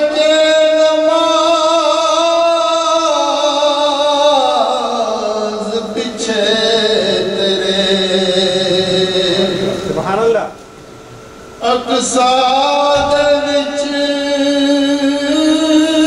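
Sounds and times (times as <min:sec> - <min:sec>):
man singing devotional poem: 0:00.0 - 0:10.0, 0:11.6 - 0:16.0.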